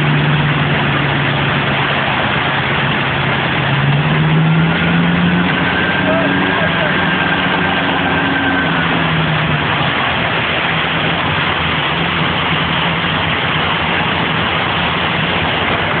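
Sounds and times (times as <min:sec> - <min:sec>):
car wash rushing: 0:00.0 - 0:16.0
low engine hum: 0:00.0 - 0:16.0.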